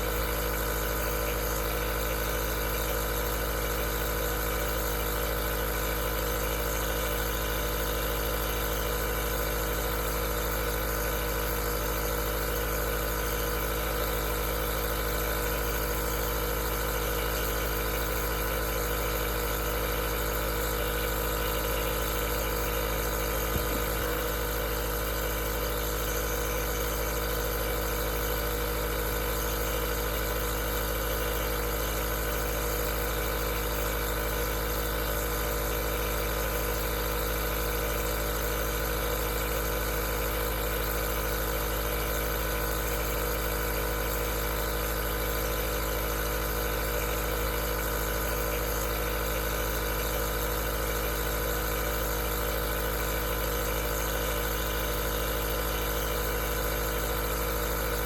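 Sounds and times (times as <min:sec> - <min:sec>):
nebulizer motor hum: 0:00.0 - 0:58.0.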